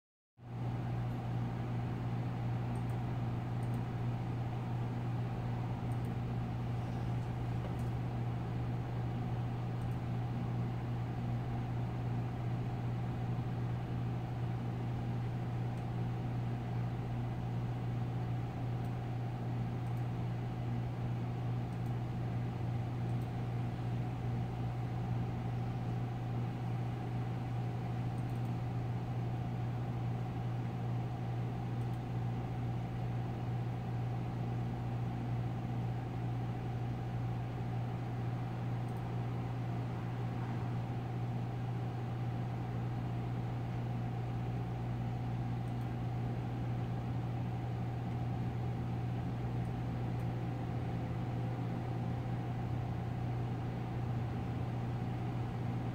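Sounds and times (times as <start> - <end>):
low electrical hum: 0.4 - 55.9.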